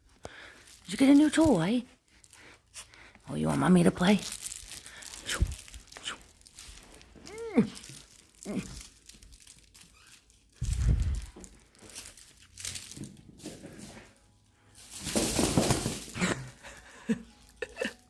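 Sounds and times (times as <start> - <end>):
dog shaking crinkly plush toy: 0.4 - 2.6, 3.2 - 14.1, 14.7 - 18.0.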